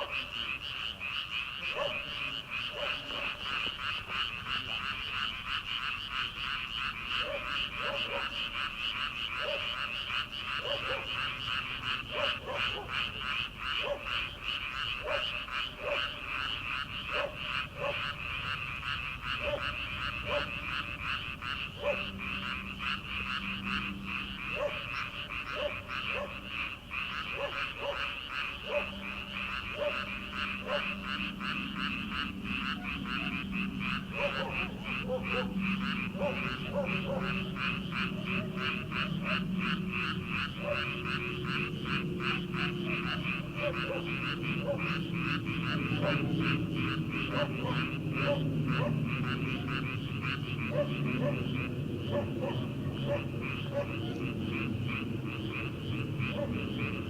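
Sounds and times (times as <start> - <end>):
chorus of frogs trilling: 0.0 - 57.0
lower single frog notes: 0.0 - 57.0.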